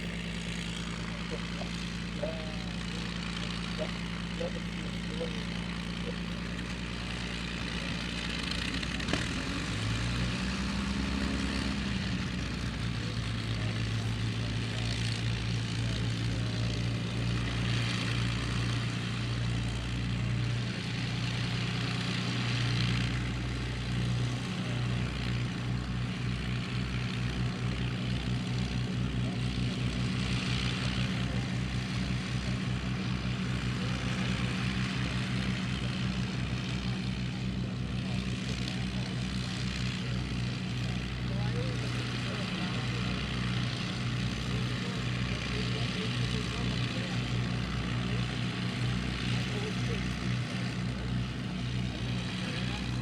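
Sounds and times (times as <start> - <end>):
propeller aircraft engines droning: 0.0 - 53.0.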